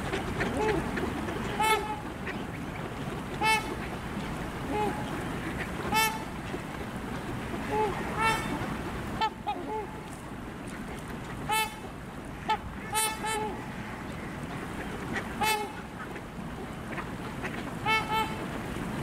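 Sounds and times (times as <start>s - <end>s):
swans honking: 0.0s - 19.0s.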